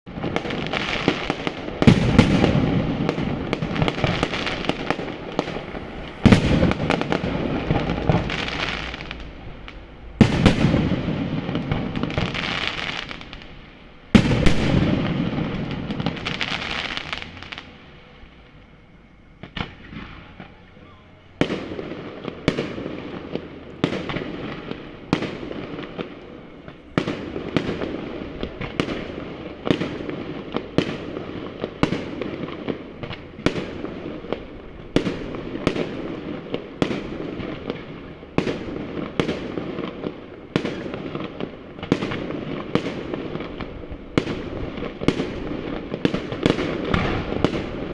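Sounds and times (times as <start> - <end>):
firework shells bursting with bangs: 0.1 - 17.8, 21.4 - 47.9
firework crackling: 0.1 - 47.9
smaller firework bangs: 0.1 - 47.9.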